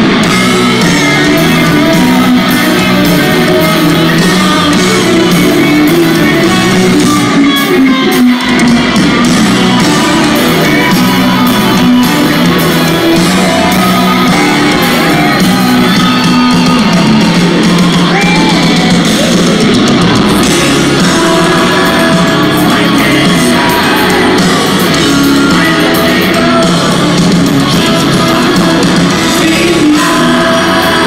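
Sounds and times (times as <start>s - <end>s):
live rock band playing: 0.0s - 31.0s
shouted vocals: 0.0s - 31.0s.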